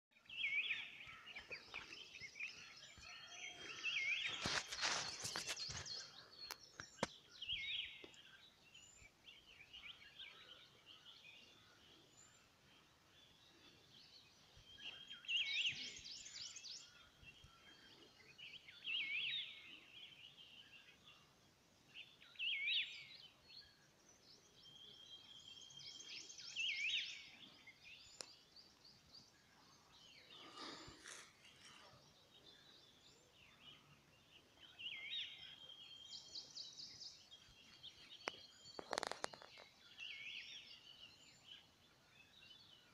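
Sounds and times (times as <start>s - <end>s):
songbirds calling: 0.1s - 42.9s
faint outdoor background hiss: 5.5s - 42.9s.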